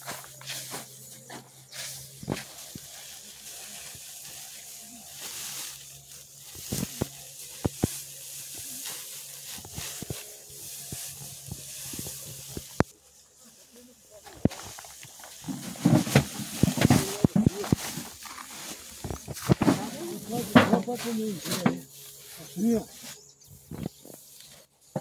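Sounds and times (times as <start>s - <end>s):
plastic sack rustling: 0.0s - 24.4s.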